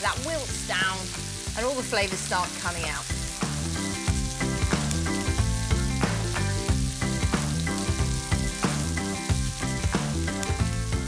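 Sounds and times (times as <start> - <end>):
background music with steady beat: 0.0 - 11.0
vegetables sizzling in frying pan: 0.0 - 11.0.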